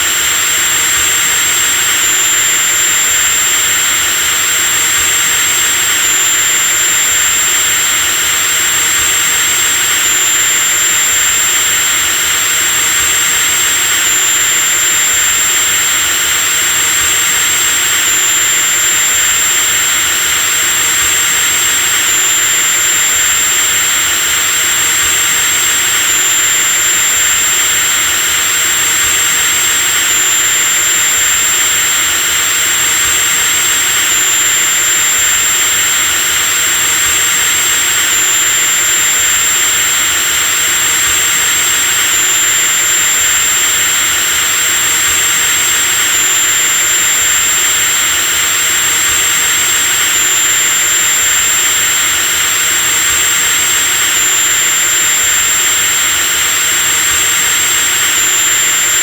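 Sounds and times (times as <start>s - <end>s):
electric drill motor whining: 0.0s - 59.0s.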